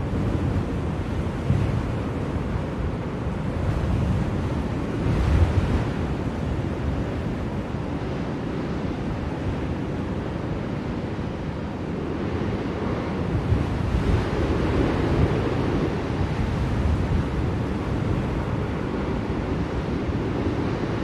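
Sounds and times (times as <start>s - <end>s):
blizzard wind blowing: 0.0s - 21.0s.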